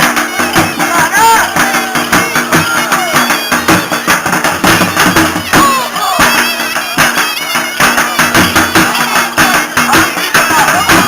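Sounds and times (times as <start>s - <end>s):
fast drum beat: 0.0s - 11.0s
reedy melody: 0.0s - 11.0s.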